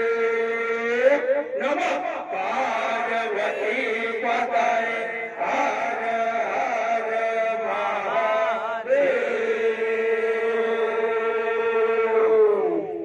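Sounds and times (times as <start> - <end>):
man chanting through loudspeaker: 0.0 - 13.0.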